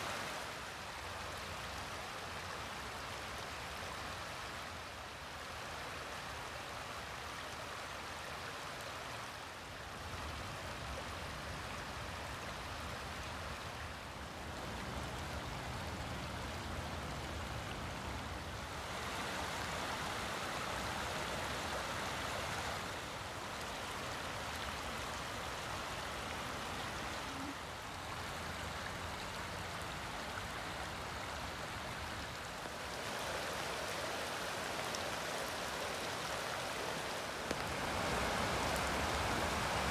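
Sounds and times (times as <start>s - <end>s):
creek rushing over stones: 0.0s - 39.9s.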